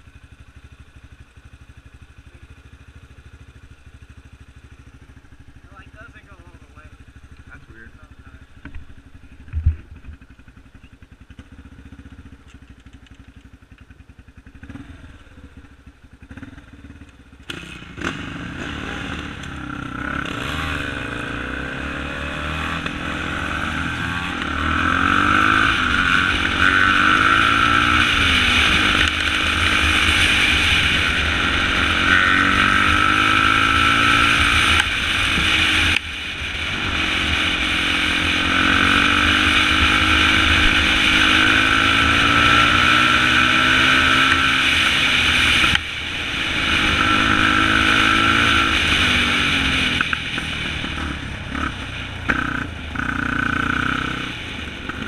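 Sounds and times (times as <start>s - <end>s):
atv engine idling and revving: 0.0s - 55.0s.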